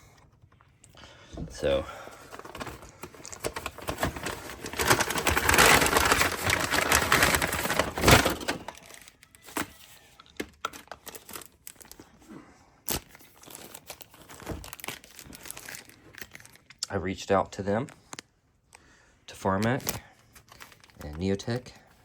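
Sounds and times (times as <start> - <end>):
rustling and crinkling: 0.0 - 16.8, 19.6 - 22.0.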